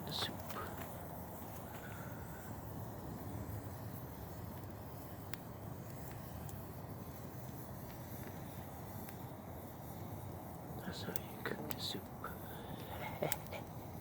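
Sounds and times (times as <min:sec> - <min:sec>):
campfire burning: 0:00.0 - 0:14.0
fire popping: 0:00.0 - 0:14.0.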